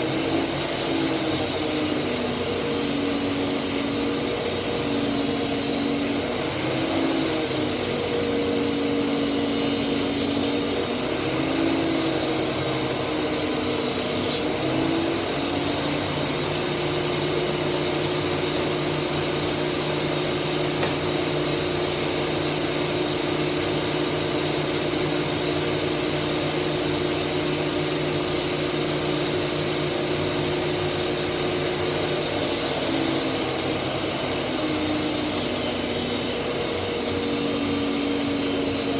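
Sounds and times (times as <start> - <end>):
planer running with high whine: 0.0 - 38.9.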